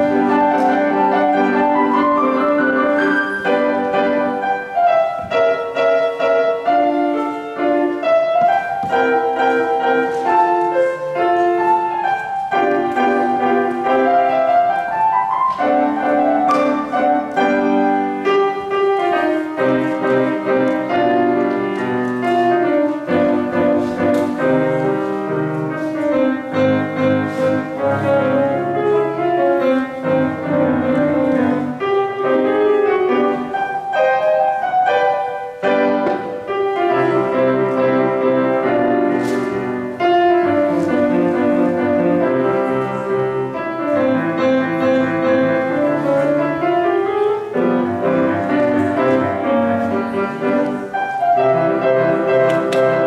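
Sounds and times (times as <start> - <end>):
solo grand piano: 0.0 - 53.0.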